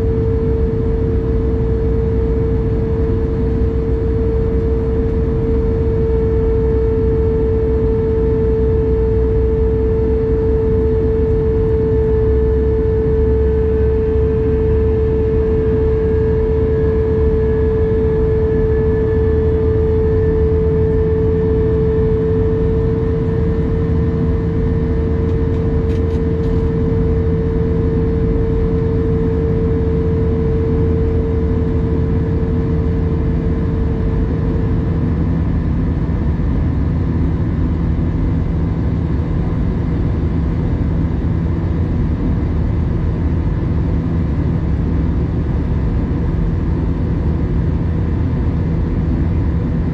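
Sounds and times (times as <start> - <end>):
jet engine cabin rumble: 0.0 - 49.9
mid-pitched hum: 0.0 - 49.9.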